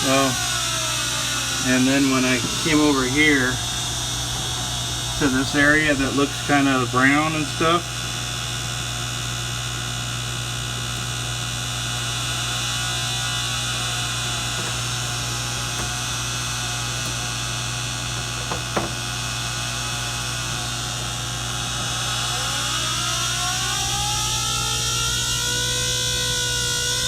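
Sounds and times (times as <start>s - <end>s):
electrical hum with high whine: 0.0s - 27.0s.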